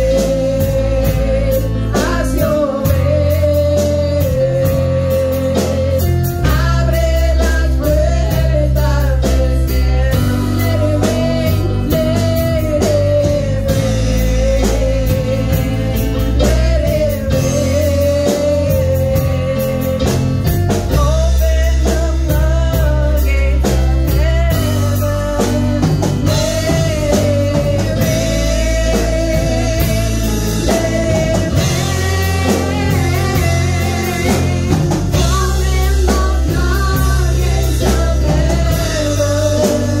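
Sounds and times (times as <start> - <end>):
drum kit: 0.0 - 40.0
electric guitar: 0.0 - 40.0
keyboard: 0.0 - 40.0
women singing: 0.0 - 40.0.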